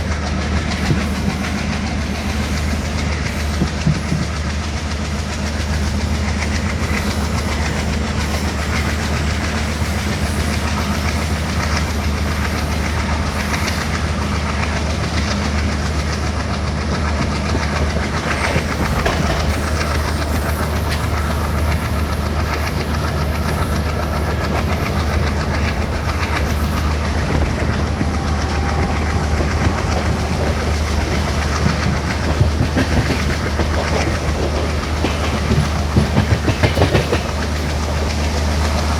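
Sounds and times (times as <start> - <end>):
low locomotive drone: 0.0 - 38.9
train wheels clattering over rails: 0.0 - 38.9.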